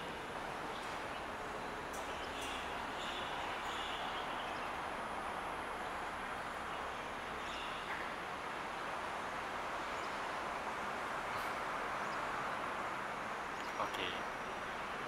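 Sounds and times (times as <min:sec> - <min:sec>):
steady hiss and rumble: 0:00.0 - 0:15.0.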